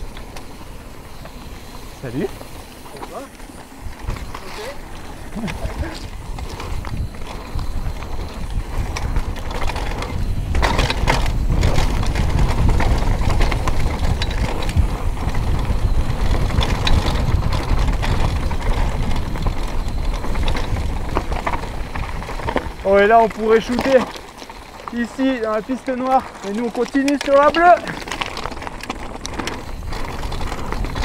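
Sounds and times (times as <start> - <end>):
bike rattling over bumps: 0.0 - 31.0
bike tyres on dirt: 0.0 - 31.0.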